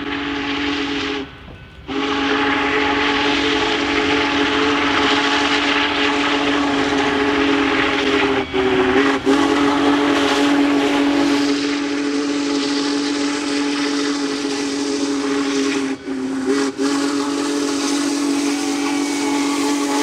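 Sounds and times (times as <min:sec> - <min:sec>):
steam hissing: 0:00.0 - 0:20.0
steam locomotive whistle: 0:00.0 - 0:20.0.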